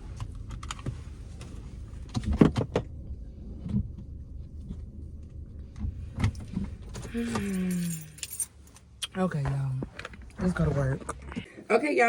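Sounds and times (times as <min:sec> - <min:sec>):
car low rumble: 0:00.0 - 0:11.6.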